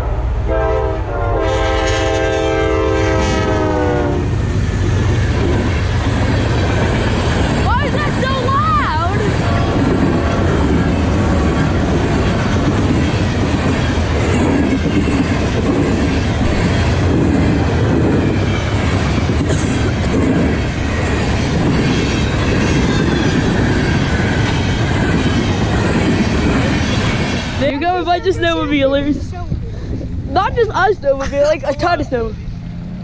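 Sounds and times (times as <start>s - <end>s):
freight train wheels clacking: 1.4s - 33.0s.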